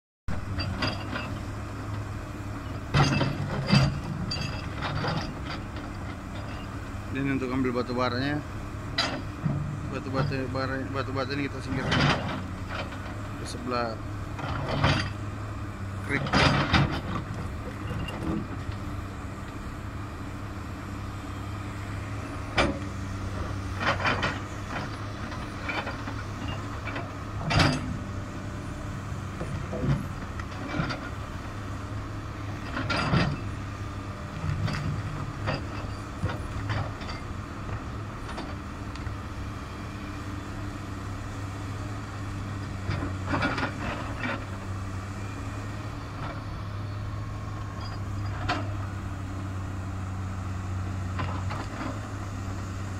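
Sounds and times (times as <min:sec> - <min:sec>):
excavator diesel engine running: 0:00.3 - 0:52.9.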